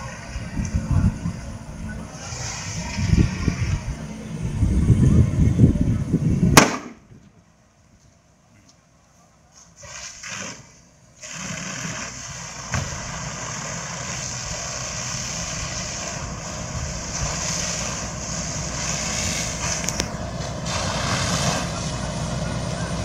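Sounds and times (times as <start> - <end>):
strong hiss: 0.0 - 7.0, 9.6 - 23.0
heavy vehicle engine running: 0.0 - 7.8, 10.9 - 23.0.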